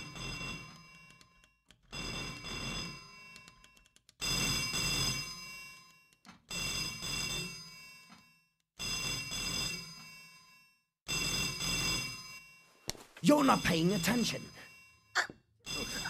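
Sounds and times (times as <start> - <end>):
old telephone bell ringing: 0.0 - 16.0.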